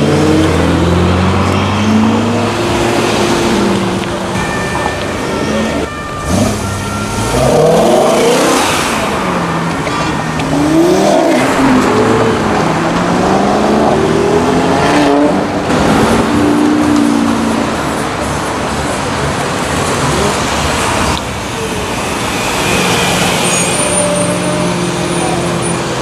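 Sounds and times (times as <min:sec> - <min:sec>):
car engines revving and accelerating: 0:00.0 - 0:26.0.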